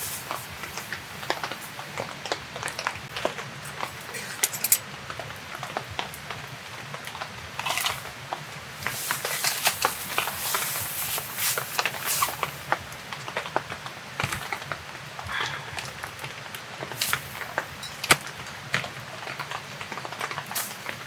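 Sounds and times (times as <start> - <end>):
meat sizzling and popping: 0.0 - 14.9, 16.3 - 21.0.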